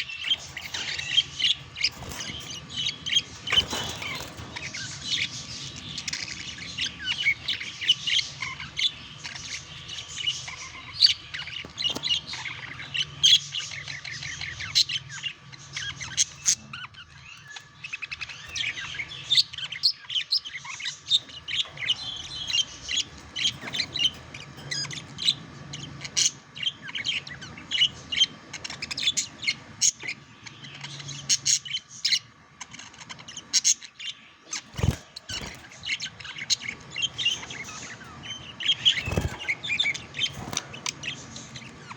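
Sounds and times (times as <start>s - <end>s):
budgerigars chattering and warbling: 0.0s - 41.9s
faint steady hum: 0.0s - 41.9s.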